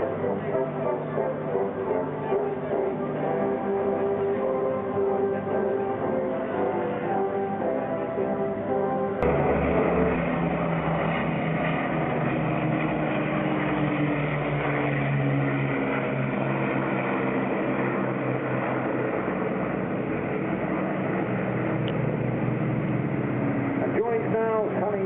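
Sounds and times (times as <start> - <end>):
propeller aircraft engines droning: 0.0 - 25.0.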